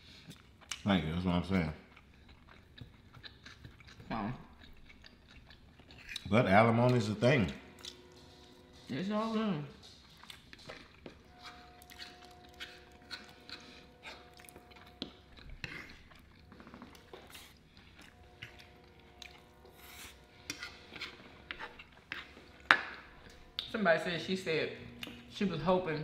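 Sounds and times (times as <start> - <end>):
chewing: 0.0 - 8.9, 9.8 - 23.7
faint hum of held tones: 4.2 - 26.0.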